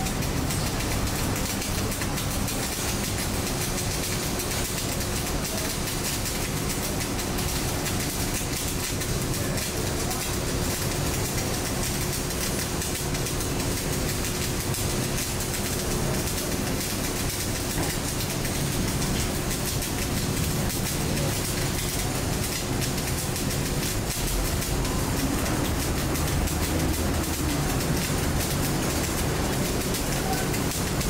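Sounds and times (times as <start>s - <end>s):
welding arc crackling: 0.0s - 31.0s.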